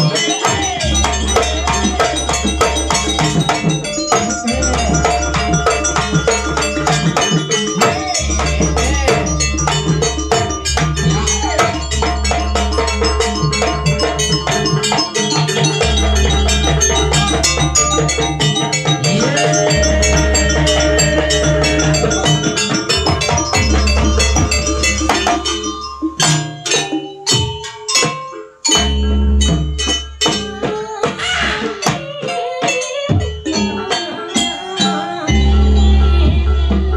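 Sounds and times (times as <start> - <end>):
gamelan ensemble playing: 0.0 - 36.9.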